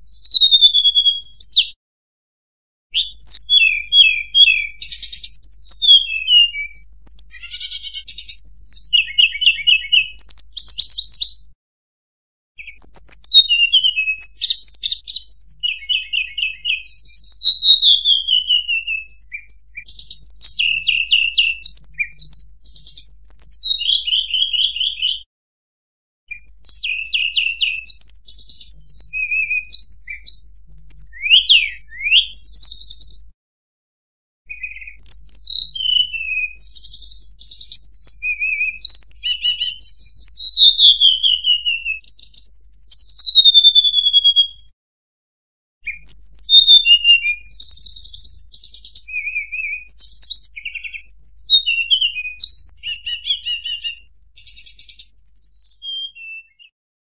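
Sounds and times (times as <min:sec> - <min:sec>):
bird singing whistles and trills: 0:00.0 - 0:01.8, 0:03.0 - 0:11.6, 0:12.6 - 0:25.3, 0:26.3 - 0:33.4, 0:34.5 - 0:44.7, 0:45.8 - 0:56.8.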